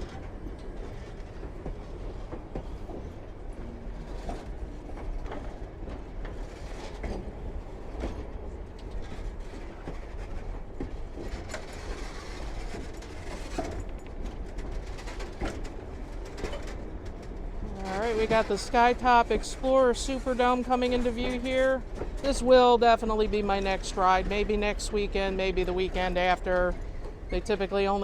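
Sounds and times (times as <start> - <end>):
train rumble: 0.0 - 28.0
wheels clicking over rail joints: 0.0 - 28.0.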